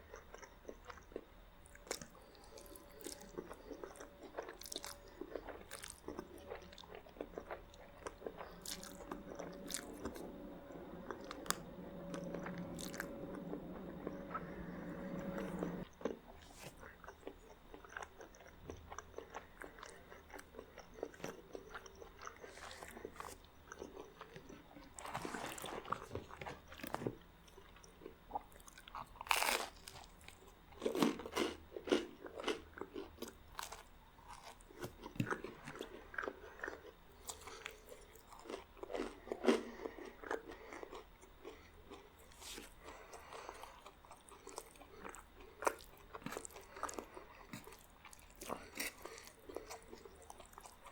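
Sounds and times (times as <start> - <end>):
person chewing crunchy bread: 0.0 - 50.9.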